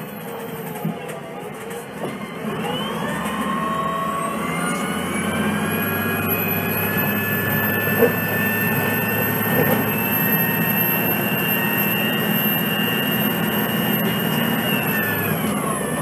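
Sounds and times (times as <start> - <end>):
bus engine idling: 0.0 - 16.0
high whine: 2.6 - 16.0.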